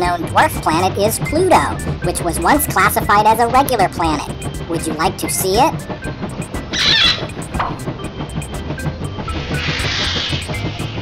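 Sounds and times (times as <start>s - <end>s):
light background music with beat: 0.0s - 11.0s.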